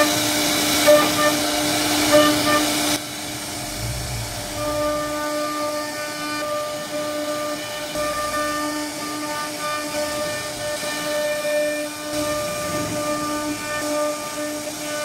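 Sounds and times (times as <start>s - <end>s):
cnc router spindle whining: 0.0s - 15.0s.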